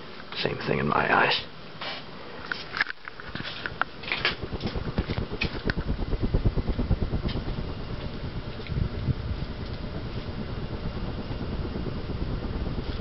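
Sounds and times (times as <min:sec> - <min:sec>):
ceiling fan pulsing air: 0:00.0 - 0:13.0.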